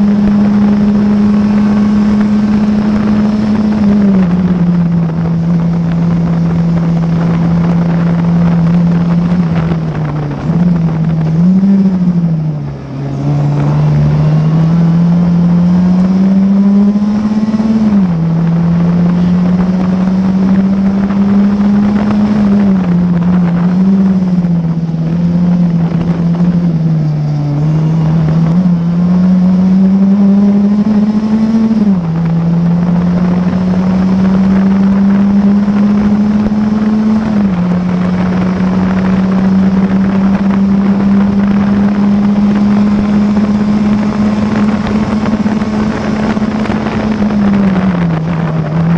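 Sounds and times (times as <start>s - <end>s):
racing car engine revving: 0.0s - 48.9s.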